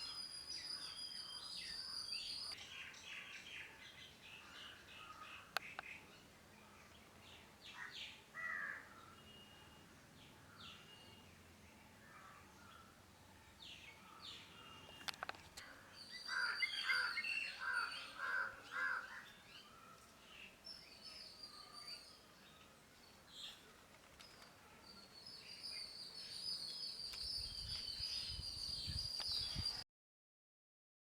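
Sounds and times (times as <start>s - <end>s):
songbirds chirping and calling: 0.0s - 29.8s.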